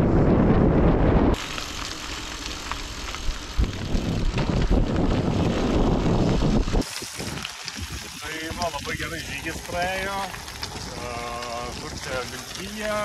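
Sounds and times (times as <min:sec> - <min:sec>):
wind rumbling on microphone: 0:00.0 - 0:13.0
bicycle tyres crunching on gravel: 0:01.3 - 0:13.0.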